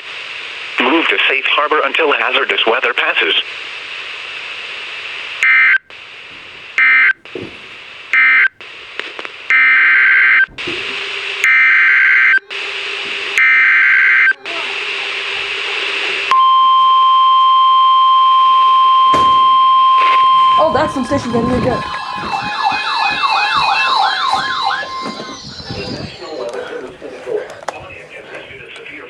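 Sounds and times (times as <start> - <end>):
steady warning alarm tone: 0.8 - 29.0
buzzing data bursts: 3.4 - 17.4, 18.0 - 28.7.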